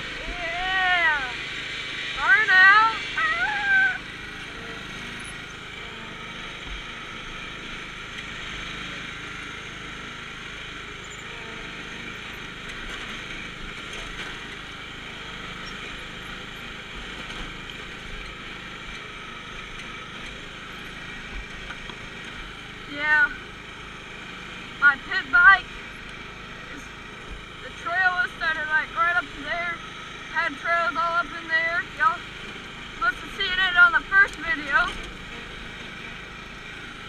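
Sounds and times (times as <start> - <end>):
riding mower engine running: 0.0 - 37.0.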